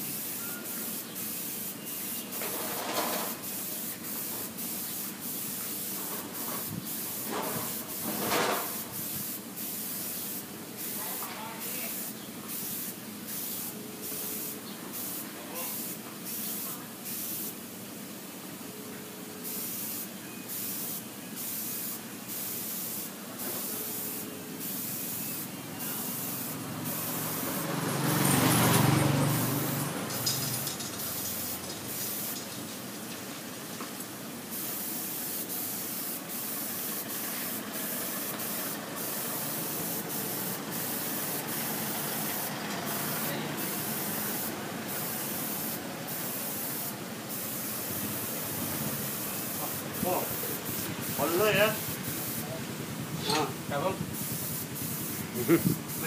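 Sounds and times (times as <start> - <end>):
spray paint can hissing: 0.0 - 17.7, 19.4 - 33.0, 33.9 - 52.6, 53.4 - 56.0.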